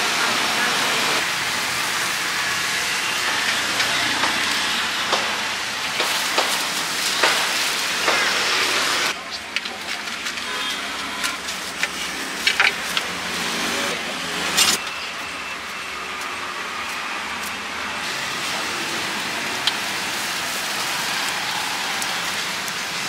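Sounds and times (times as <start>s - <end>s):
traffic going by: 0.0s - 23.0s.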